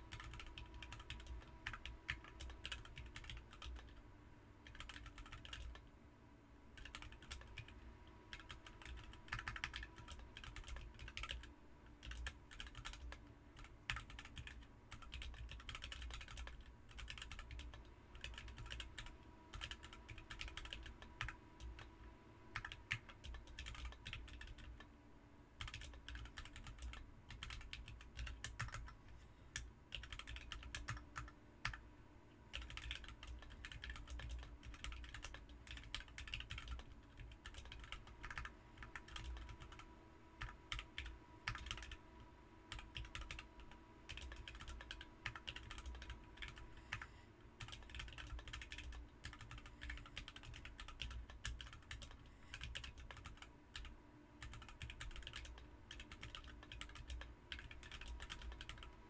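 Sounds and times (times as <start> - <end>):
mechanical keyboard typing: 0.0 - 4.0, 4.6 - 5.9, 6.8 - 21.9, 22.5 - 24.9, 25.6 - 29.0, 29.6 - 31.8, 32.5 - 39.8, 40.4 - 42.0, 42.7 - 59.0.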